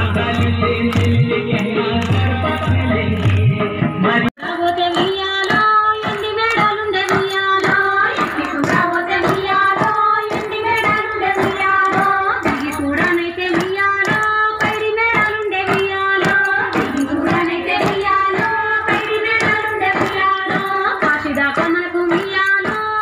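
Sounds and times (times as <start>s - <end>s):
hand clapping: 0.0s - 3.7s, 4.6s - 23.0s
women singing folk song: 4.4s - 23.0s.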